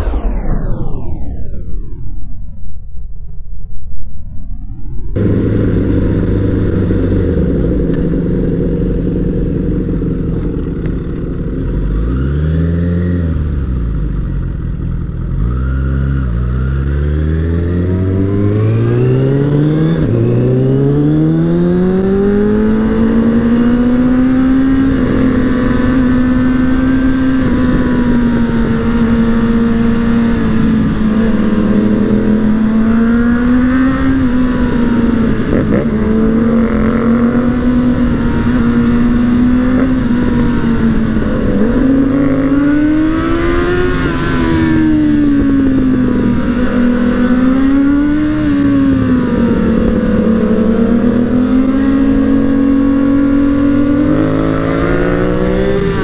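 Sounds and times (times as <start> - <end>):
wind noise: 0.0 - 15.3, 16.0 - 56.0
motorcycle engine revving: 5.2 - 56.0.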